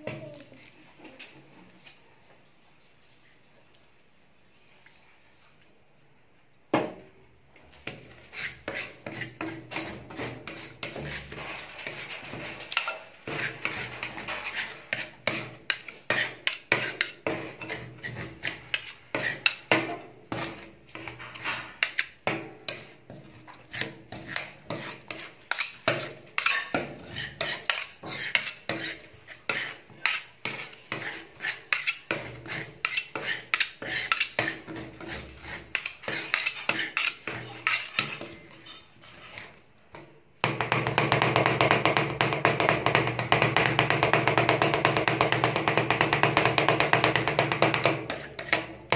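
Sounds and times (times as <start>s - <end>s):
metal spatulas chopping and scraping: 7.7s - 48.9s.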